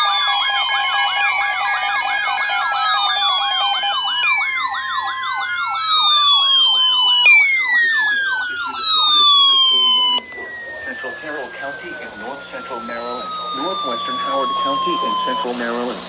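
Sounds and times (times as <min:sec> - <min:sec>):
electronic siren yelp: 0:00.0 - 0:15.5
falling siren sweep: 0:00.0 - 0:15.5
steady siren tone: 0:00.0 - 0:16.0.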